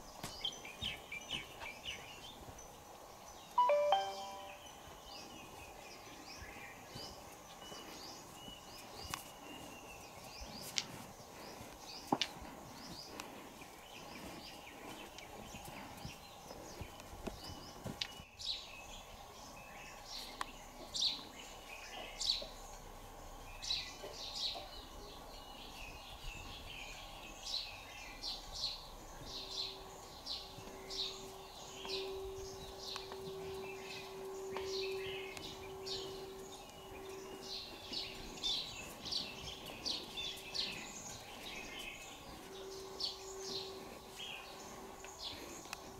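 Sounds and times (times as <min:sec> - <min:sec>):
small birds chirping: 0:00.0 - 0:45.9
steady low hum: 0:00.0 - 0:45.9.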